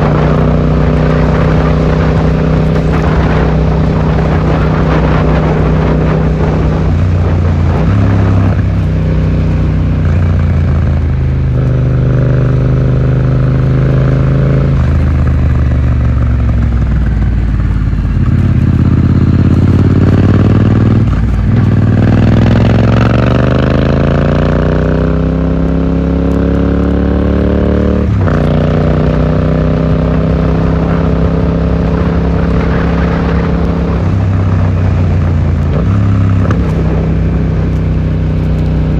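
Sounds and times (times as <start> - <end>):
muffled motorcycle engine: 0.0 - 38.9.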